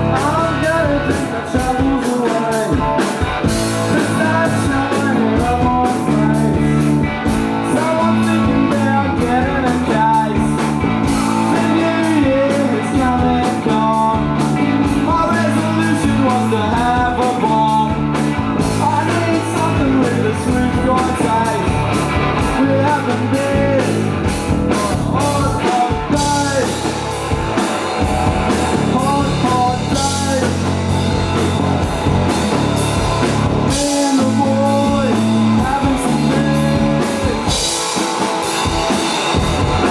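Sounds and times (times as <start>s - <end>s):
person singing: 0.0s - 27.9s, 28.5s - 39.9s
rock band playing: 0.0s - 39.9s.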